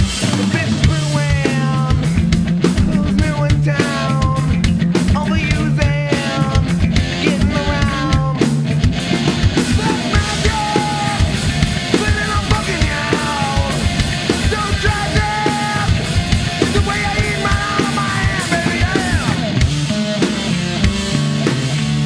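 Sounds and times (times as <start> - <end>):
bass guitar: 0.0 - 22.0
drum kit: 0.0 - 22.0
electric guitar: 0.0 - 22.0
person singing: 0.4 - 8.5, 9.7 - 19.6.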